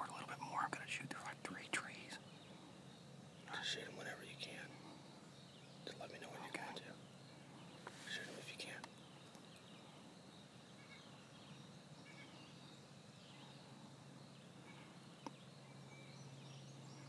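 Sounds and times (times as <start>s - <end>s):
faint bird calls: 0.0s - 17.0s
faint low hum: 0.0s - 17.0s.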